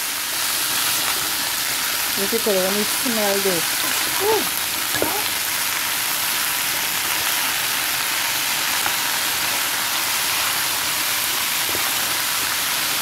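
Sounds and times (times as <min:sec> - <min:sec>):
chickpeas sizzling in oil: 0:00.0 - 0:13.0.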